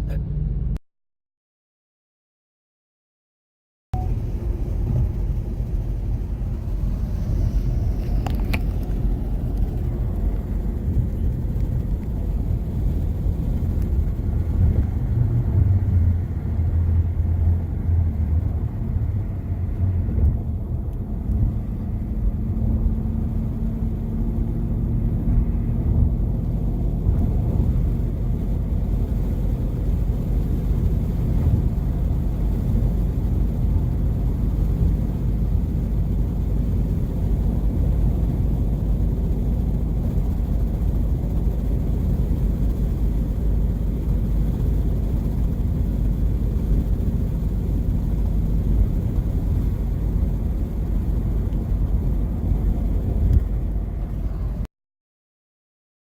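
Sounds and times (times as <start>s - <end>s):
car rumbling on the move: 0.0s - 0.8s, 4.0s - 54.7s.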